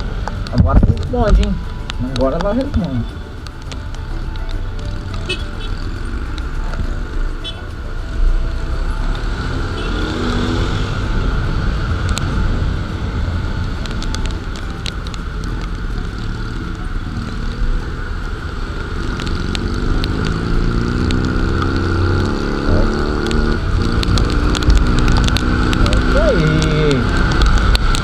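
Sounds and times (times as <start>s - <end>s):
scooter engine running: 0.0s - 28.0s.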